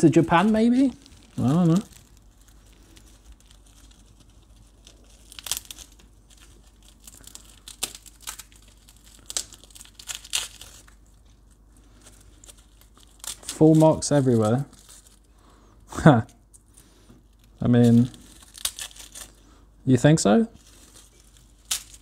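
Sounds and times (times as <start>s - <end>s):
garlic skins crinkling and tearing: 0.0s - 19.6s, 20.6s - 22.0s.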